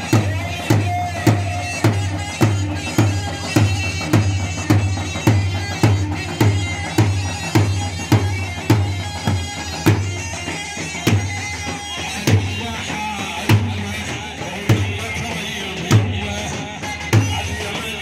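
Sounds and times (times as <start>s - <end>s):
reedy wind instrument melody: 0.0s - 14.4s
steady drum beat: 0.0s - 18.0s.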